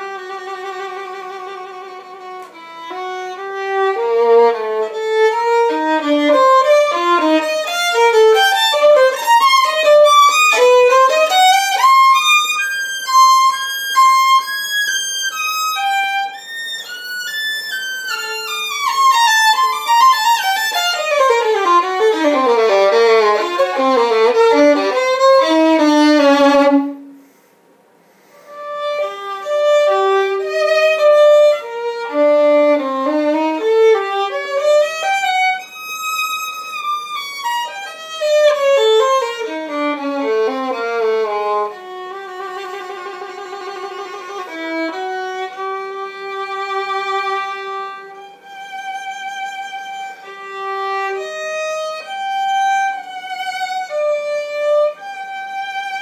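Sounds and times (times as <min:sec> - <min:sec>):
violin playing: 0:00.0 - 0:27.2, 0:28.4 - 0:56.0.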